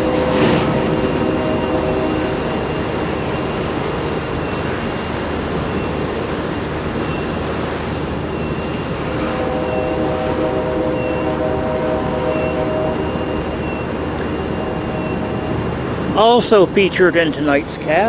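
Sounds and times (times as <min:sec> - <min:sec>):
faint steady tone: 0:00.0 - 0:18.0
train wheels rumbling on rail: 0:00.0 - 0:18.0.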